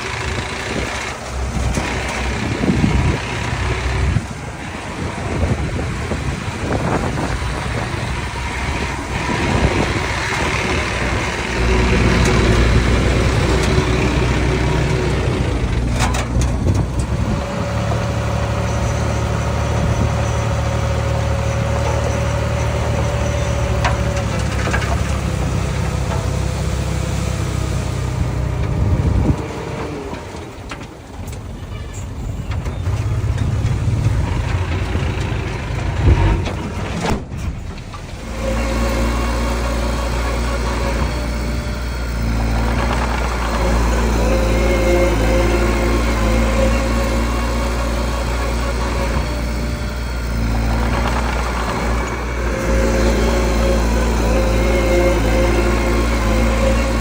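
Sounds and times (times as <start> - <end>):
heavy machine engine under load: 0.0 - 57.0.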